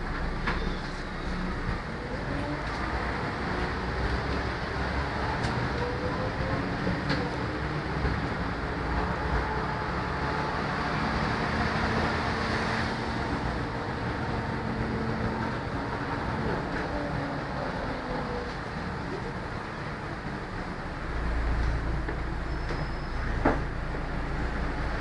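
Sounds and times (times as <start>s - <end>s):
bus engine and road drone: 0.0s - 25.0s.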